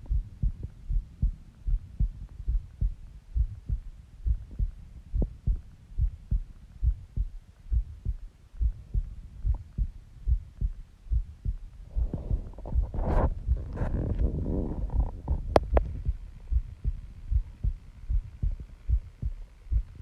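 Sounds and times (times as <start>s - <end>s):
human heartbeat: 0.0s - 20.0s
rushing rumbling body sound: 0.1s - 20.0s.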